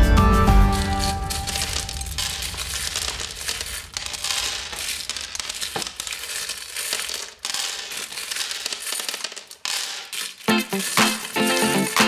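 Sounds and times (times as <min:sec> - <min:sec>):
candies rattling in ceramic bowl: 0:00.6 - 0:12.0.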